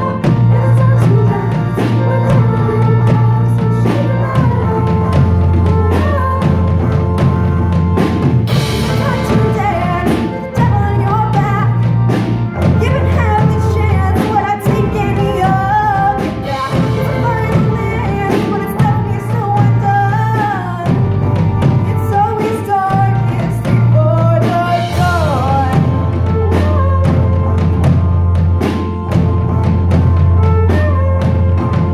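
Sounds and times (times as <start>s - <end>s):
bass line: 0.0s - 31.9s
drum kit beat: 0.0s - 31.9s
person singing: 0.0s - 31.9s.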